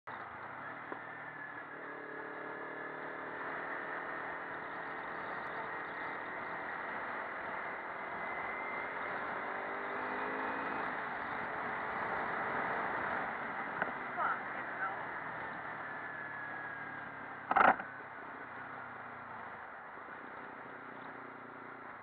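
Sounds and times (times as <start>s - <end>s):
motorcycle engine running: 0.1s - 22.0s
wind and road noise: 0.1s - 22.0s.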